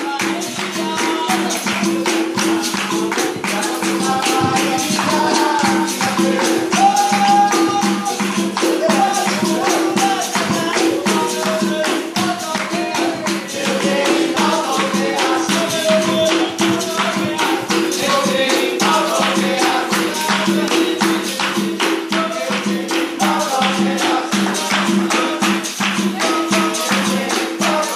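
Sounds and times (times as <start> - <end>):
tambourine and rattle percussion: 0.0 - 27.9
voices singing: 0.0 - 27.9.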